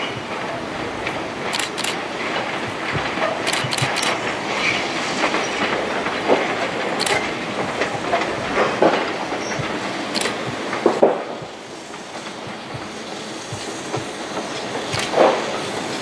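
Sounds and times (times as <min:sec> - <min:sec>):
wheels clanking over joints: 0:00.0 - 0:16.0
wheels rumbling on rail: 0:00.0 - 0:16.0.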